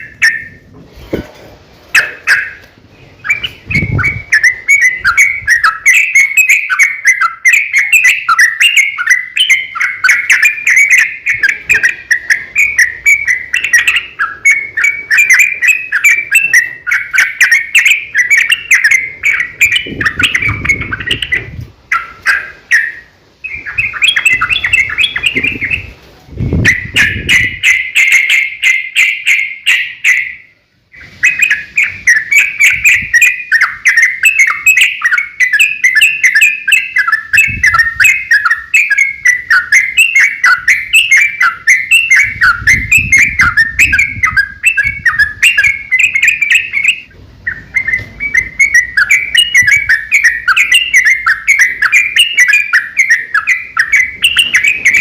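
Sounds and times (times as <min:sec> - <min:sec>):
bird singing chattering notes: 0:00.0 - 0:00.7, 0:01.9 - 0:55.0.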